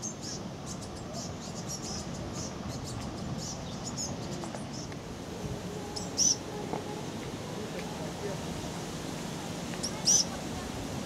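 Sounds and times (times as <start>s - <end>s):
birds calling: 0.0s - 10.5s.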